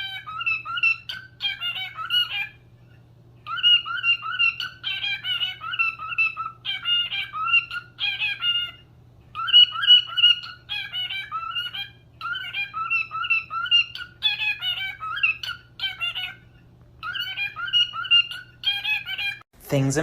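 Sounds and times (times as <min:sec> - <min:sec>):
bird whistling a melody: 0:00.0 - 0:19.4
faint steady hum: 0:00.0 - 0:20.0.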